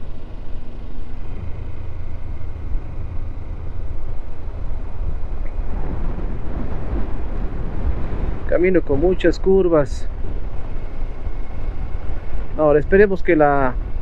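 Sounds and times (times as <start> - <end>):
motorcycle engine and road rumble: 0.0 - 14.0.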